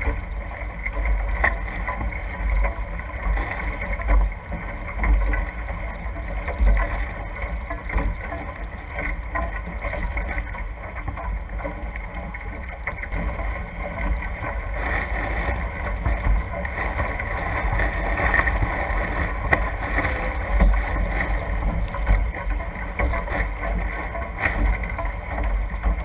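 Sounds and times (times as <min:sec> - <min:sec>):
water and spray rushing along hulls: 0:00.0 - 0:26.0
wind buffeting microphone: 0:01.2 - 0:26.0.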